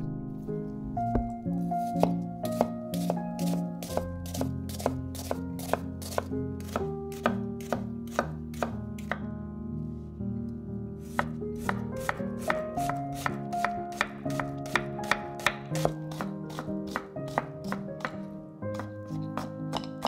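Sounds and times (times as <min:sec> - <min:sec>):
knife chopping on wooden board: 0:01.8 - 0:09.3, 0:11.1 - 0:20.0.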